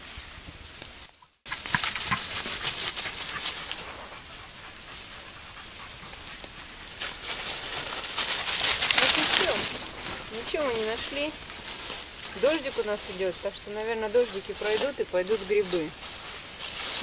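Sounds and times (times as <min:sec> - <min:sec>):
dry leaves crunching underfoot: 0:00.0 - 0:05.2, 0:06.0 - 0:17.0.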